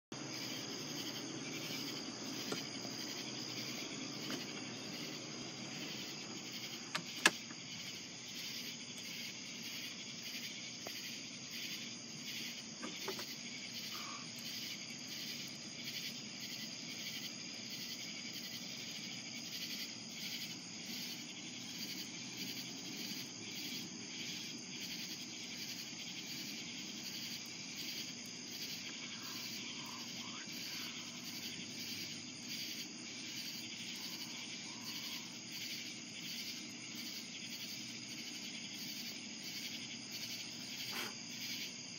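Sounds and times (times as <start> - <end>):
crickets chirping: 0.1 - 41.9.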